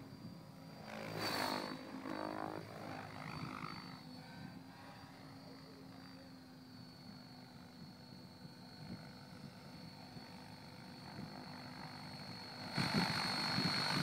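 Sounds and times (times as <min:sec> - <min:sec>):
helicopter rotor blades whooshing: 0:00.0 - 0:14.0
high motor whine: 0:00.0 - 0:14.0.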